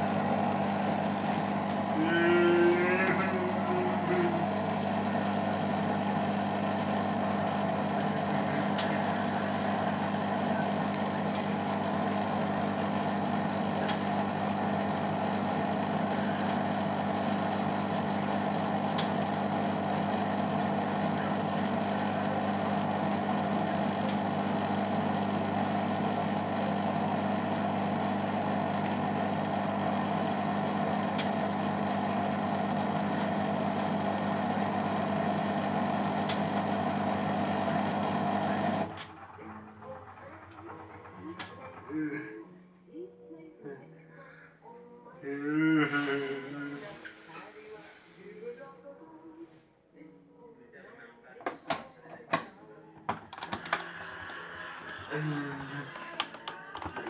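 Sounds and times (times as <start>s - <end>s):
washing machine spinning: 0.0s - 42.7s, 51.5s - 57.0s.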